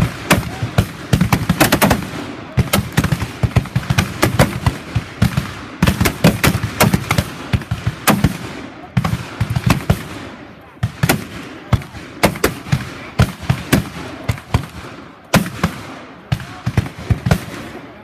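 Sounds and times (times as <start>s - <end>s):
revolver gunshots: 0.0s - 17.9s.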